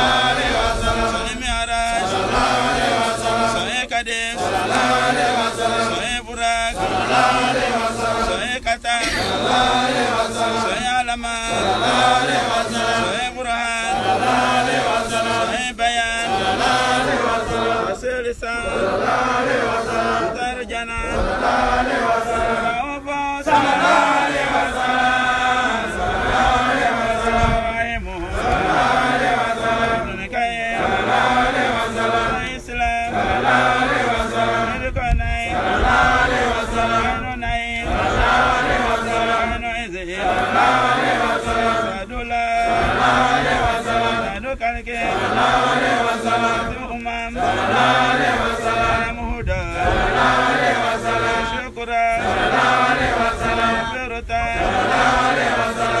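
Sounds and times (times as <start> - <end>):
men chanting: 0.0 - 56.0.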